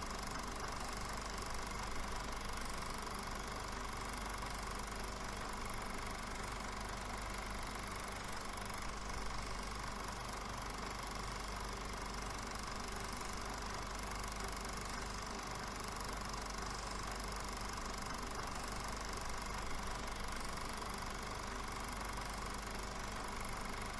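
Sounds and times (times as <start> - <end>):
film projector running: 0.0 - 23.9.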